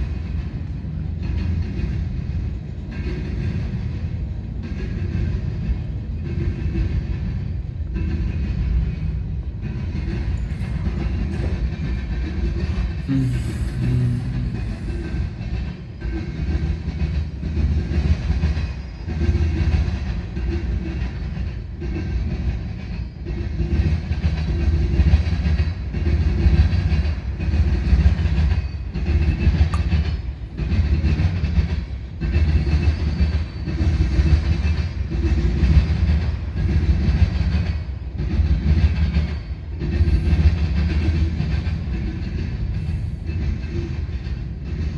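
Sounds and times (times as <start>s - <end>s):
freight cars rumbling on rails: 0.0s - 44.9s.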